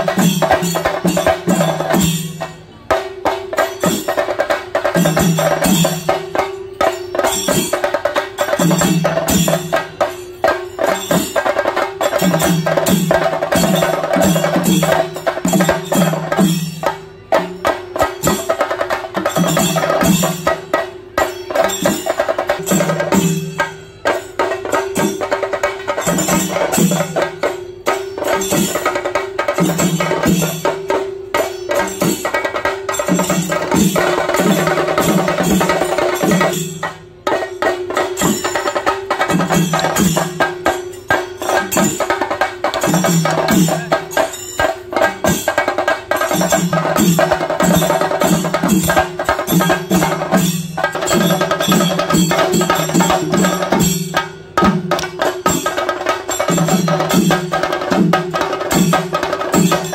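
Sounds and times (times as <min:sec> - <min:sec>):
drums beaten rapidly with sticks: 0:00.0 - 0:59.9.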